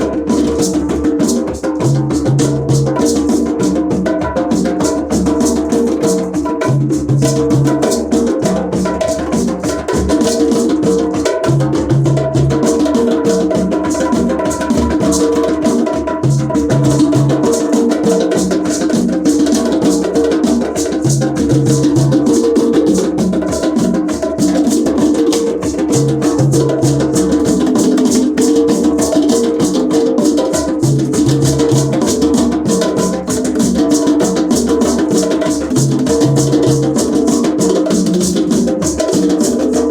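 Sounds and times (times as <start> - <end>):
percussion music: 0.0 - 39.9.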